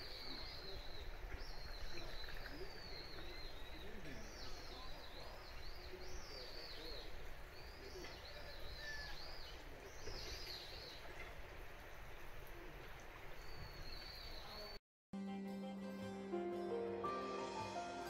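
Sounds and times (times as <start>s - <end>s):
outdoor background hiss: 0.0s - 14.8s.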